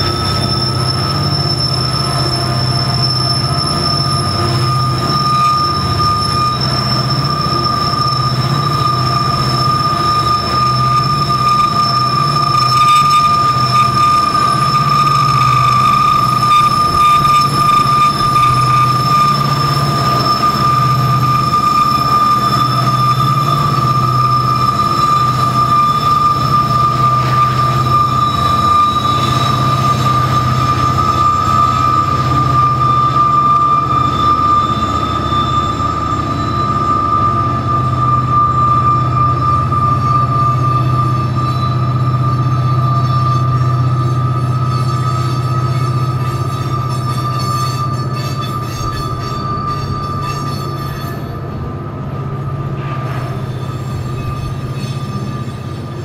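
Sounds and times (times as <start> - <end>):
diesel locomotives droning: 0.0 - 56.0
train wheels squealing: 0.0 - 56.0.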